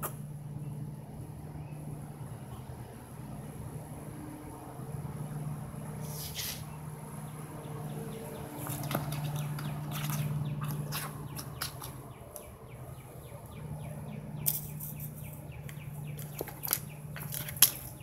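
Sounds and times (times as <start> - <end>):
birds chirping: 0.0 - 3.9, 4.5 - 18.0
steady low hum: 0.0 - 18.0.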